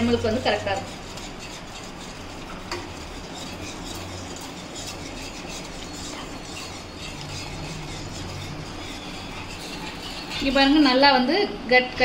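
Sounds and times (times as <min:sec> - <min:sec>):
whisk stirring in a pan: 0:00.0 - 0:11.6
whisk tapping pan: 0:00.0 - 0:11.6
steady low hum: 0:00.0 - 0:12.0.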